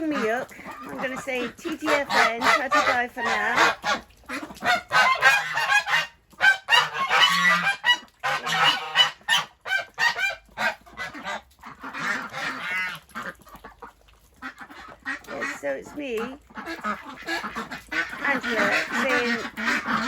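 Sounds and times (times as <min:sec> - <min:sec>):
geese honking: 0:00.0 - 0:13.4, 0:14.4 - 0:20.0.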